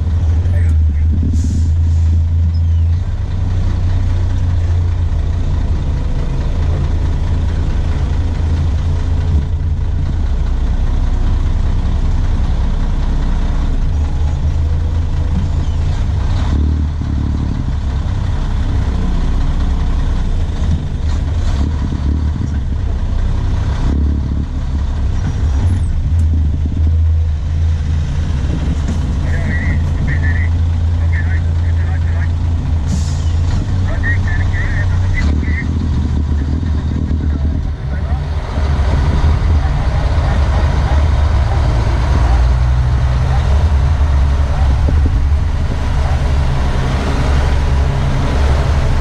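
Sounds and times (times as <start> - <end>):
diesel engine drone from cab: 0.0 - 49.0.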